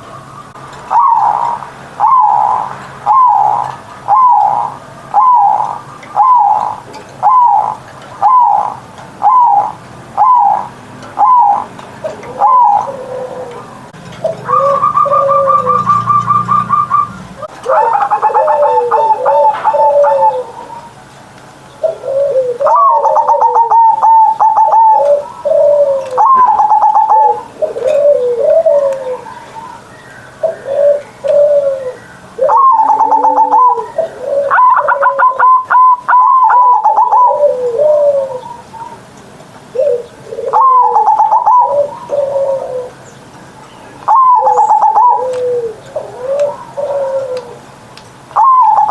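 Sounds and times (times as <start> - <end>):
dove cooing: 0.8 - 21.0, 21.8 - 39.1, 39.7 - 43.1, 44.0 - 47.7, 48.3 - 48.9.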